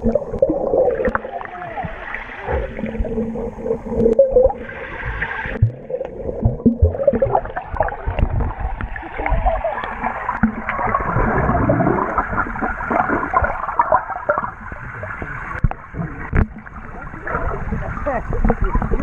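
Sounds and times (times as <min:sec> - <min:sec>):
underwater sloshing and bubbling: 0:00.0 - 0:19.0.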